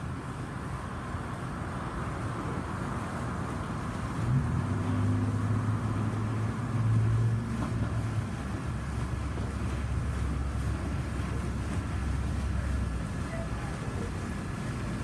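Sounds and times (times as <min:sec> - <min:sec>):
vehicle engine hum: 0:00.0 - 0:15.0
water rushing out of manhole: 0:00.0 - 0:15.0.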